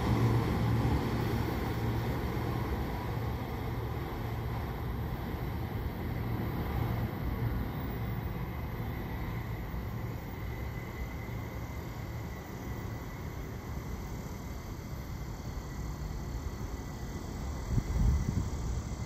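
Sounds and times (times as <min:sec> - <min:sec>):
faint high whine: 0:00.0 - 0:19.0
train rumbling: 0:00.0 - 0:19.0.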